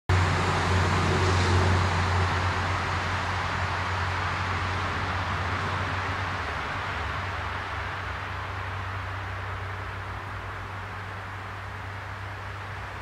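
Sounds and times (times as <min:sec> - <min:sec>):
outdoor background noise: 0:00.1 - 0:13.0.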